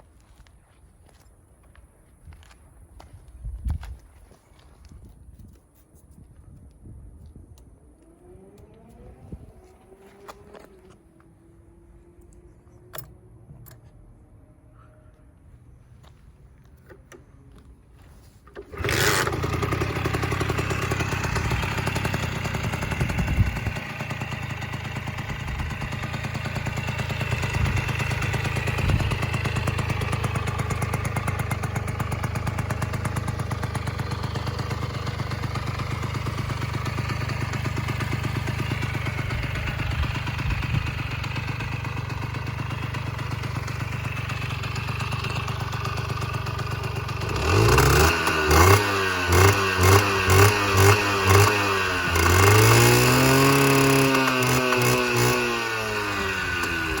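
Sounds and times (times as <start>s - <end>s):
small engine starting and idling: 7.8s - 13.8s, 16.7s - 57.0s.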